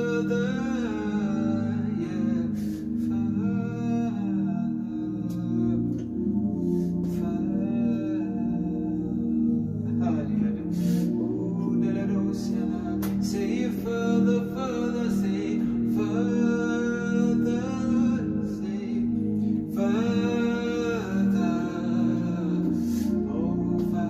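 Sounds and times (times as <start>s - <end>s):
person singing: 0.0s - 24.0s
sustained chords: 0.0s - 24.0s.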